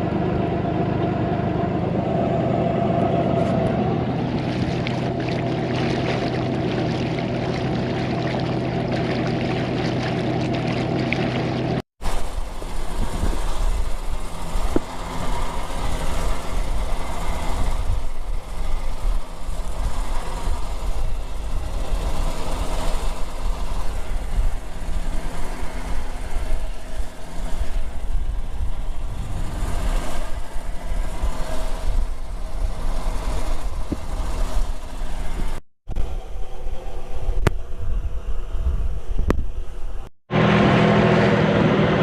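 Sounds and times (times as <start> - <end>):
boat engine running: 0.0 - 42.0.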